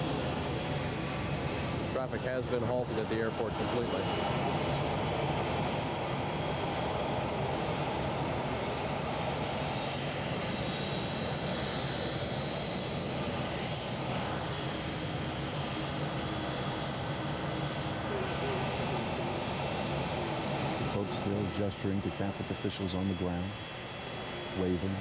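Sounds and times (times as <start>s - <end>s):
jet engines idling: 0.0s - 25.0s.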